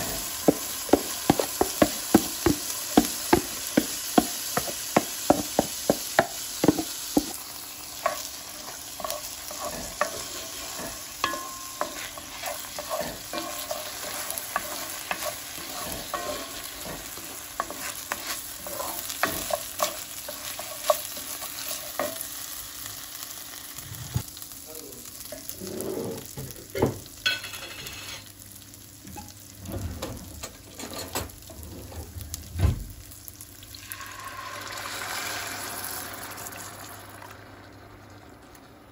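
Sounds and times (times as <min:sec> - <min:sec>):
food sizzling: 0:00.0 - 0:38.9.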